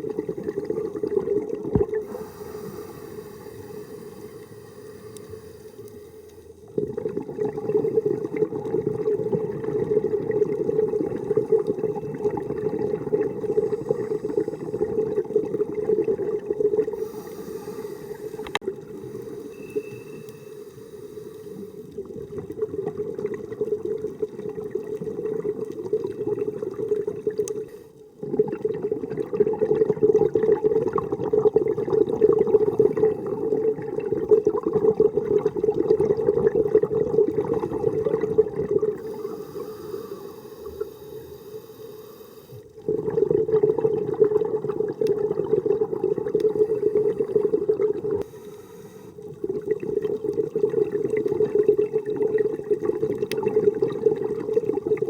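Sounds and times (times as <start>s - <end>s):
muffled underwater rushing water: 0.0s - 55.0s.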